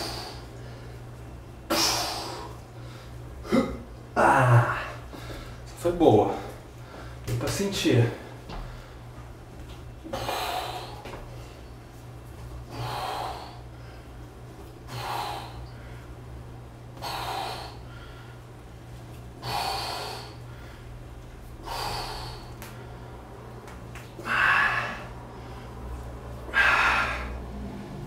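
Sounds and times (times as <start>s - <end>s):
man breathing hard: 0.0s - 1.1s, 1.7s - 7.3s, 8.1s - 9.2s, 10.0s - 11.7s, 12.6s - 16.3s, 16.9s - 18.6s, 19.4s - 23.3s, 24.2s - 28.0s
faint low hum: 0.0s - 28.0s.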